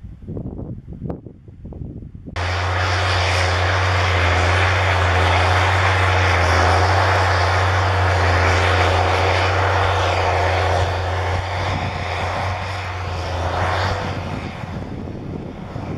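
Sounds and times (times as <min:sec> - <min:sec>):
tractor engine drone: 0:02.4 - 0:15.9.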